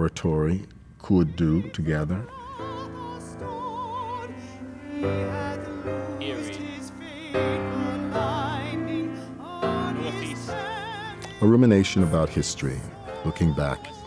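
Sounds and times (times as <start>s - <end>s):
operatic high melody with vibrato: 2.3s - 14.0s.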